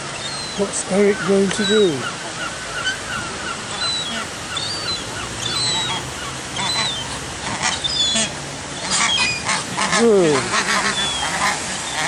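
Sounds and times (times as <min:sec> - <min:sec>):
steady hiss: 0:00.0 - 0:12.0
water birds calling: 0:00.0 - 0:12.0.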